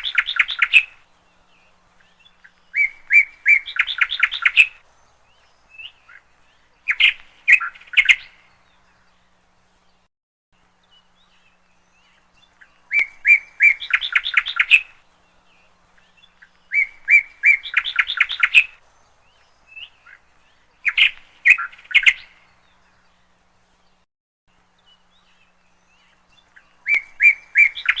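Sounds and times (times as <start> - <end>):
songbird chirping and trilling: 0.0 - 28.0.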